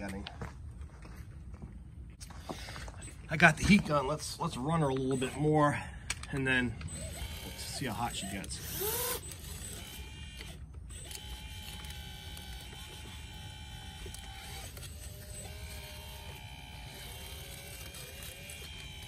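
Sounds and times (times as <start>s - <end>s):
hydraulic pump whine: 2.2s - 19.0s.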